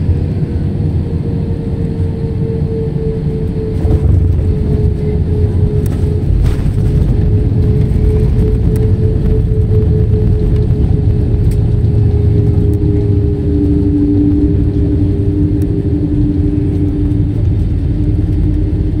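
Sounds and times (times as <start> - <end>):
jet engine and wheel rumble: 0.0 - 19.0
steady engine tones: 0.0 - 19.0.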